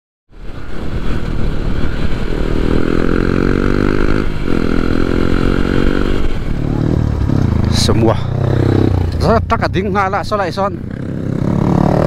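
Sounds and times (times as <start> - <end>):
wind and road noise: 0.3 - 12.0
motorcycle engine running: 1.7 - 12.0.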